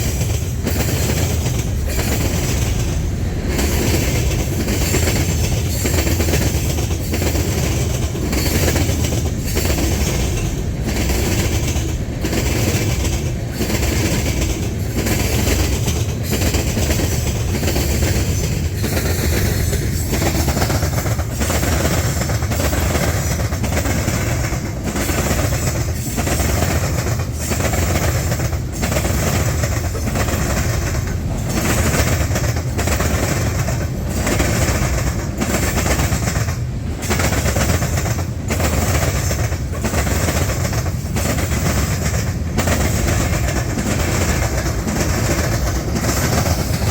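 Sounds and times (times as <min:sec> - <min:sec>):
rhythmic wheel clacks: 0:00.0 - 0:46.9
train cars rumbling past: 0:00.0 - 0:46.9.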